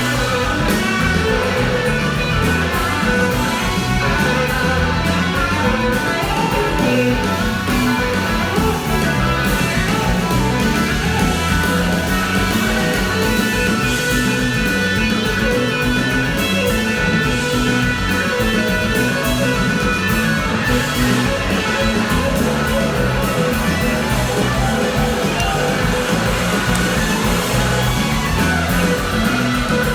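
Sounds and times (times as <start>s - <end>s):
electric guitar: 0.0s - 29.9s
live rock band playing: 0.0s - 29.9s.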